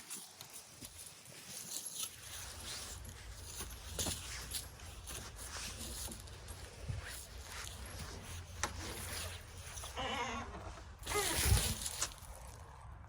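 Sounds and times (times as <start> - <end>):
rustling in grass: 0.0 - 12.9.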